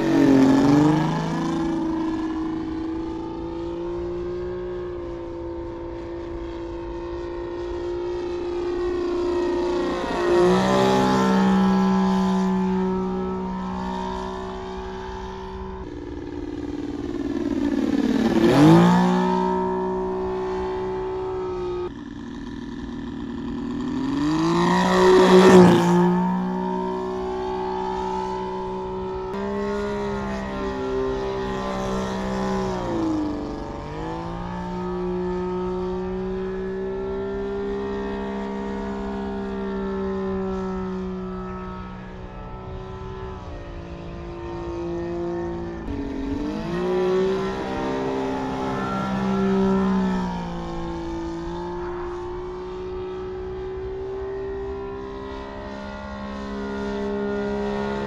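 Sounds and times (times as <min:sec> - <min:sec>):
model plane engine passing: 0:00.0 - 0:58.0.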